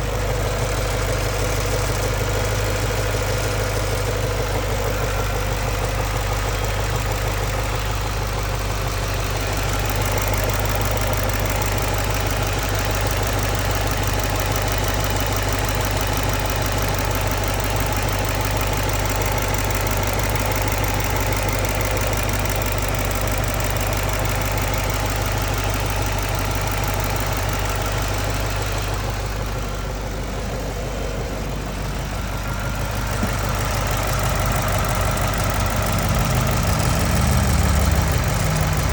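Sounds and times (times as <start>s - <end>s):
car engine idling: 0.0s - 38.9s
fuel injector ticking: 0.0s - 38.9s.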